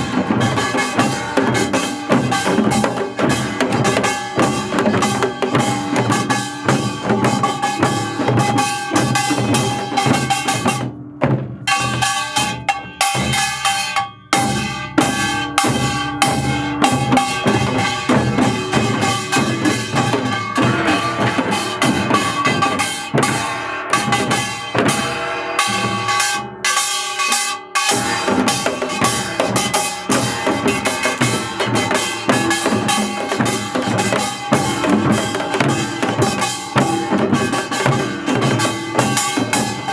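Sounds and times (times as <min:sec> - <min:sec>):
music with drum kit and percussion: 0:00.0 - 0:39.9.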